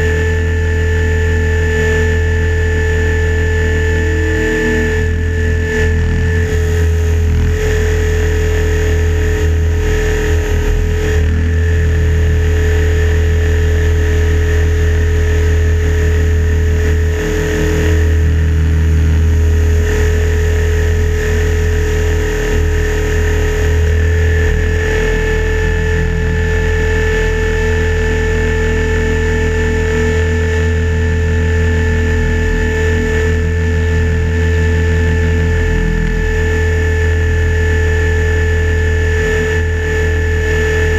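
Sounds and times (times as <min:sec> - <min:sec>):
high motor whine: 0:00.0 - 0:40.9
rotor low drone: 0:00.0 - 0:40.9.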